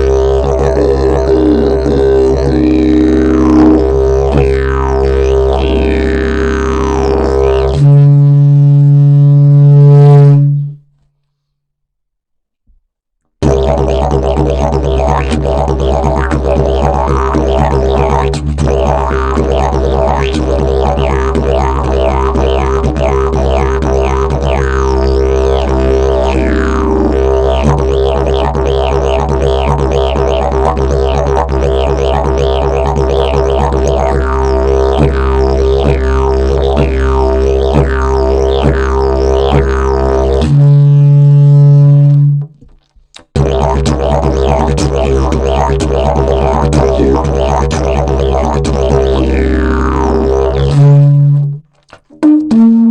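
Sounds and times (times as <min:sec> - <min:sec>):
didgeridoo drone: 0:00.0 - 0:10.8, 0:13.4 - 0:42.4, 0:43.4 - 0:51.6.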